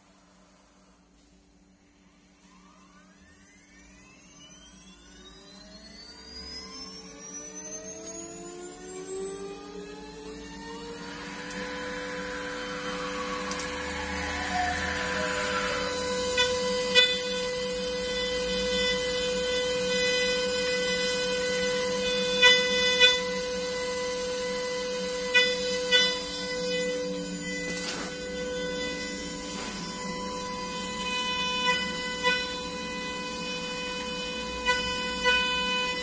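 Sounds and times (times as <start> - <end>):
machine spindle whine: 0.0 - 36.0.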